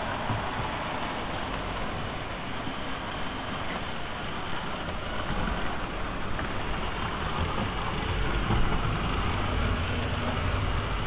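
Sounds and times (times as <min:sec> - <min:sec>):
model train rolling rumble: 0:00.0 - 0:11.0.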